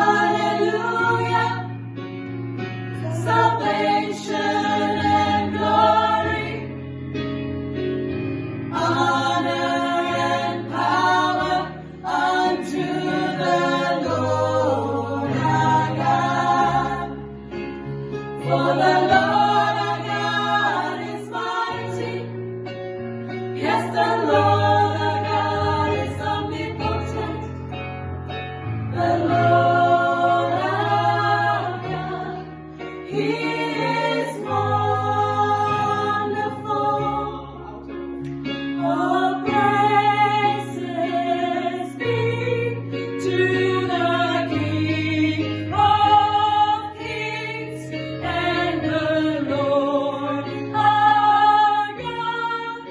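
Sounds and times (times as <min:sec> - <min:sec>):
gospel choir singing in harmony: 0:00.0 - 0:52.9.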